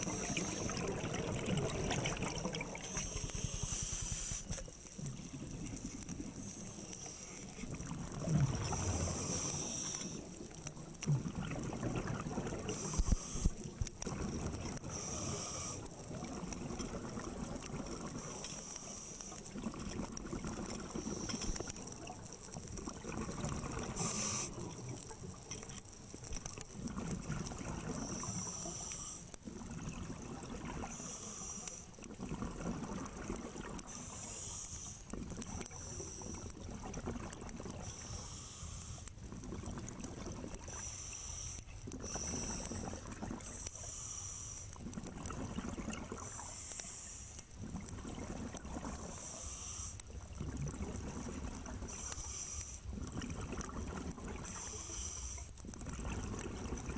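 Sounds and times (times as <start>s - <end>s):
scuba regulator hiss and bubbles: 0.0s - 16.9s, 18.0s - 20.0s, 20.6s - 29.7s, 30.5s - 32.1s, 33.5s - 36.7s, 37.7s - 39.2s, 40.6s - 44.9s, 46.0s - 50.2s, 51.6s - 53.6s, 54.4s - 55.6s.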